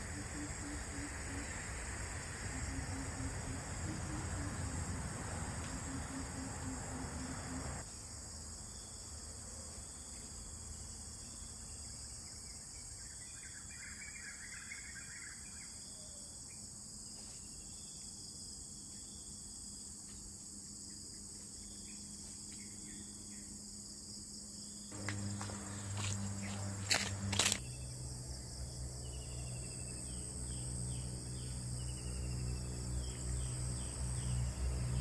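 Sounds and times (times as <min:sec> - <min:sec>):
insects chorus: 0:00.0 - 0:35.0.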